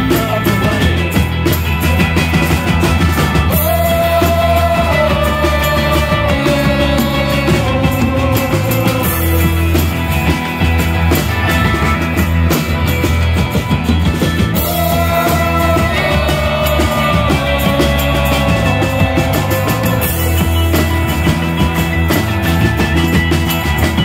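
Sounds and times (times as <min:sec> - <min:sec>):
drum kit with cymbals: 0:00.0 - 0:24.0
electric guitar: 0:00.0 - 0:24.0.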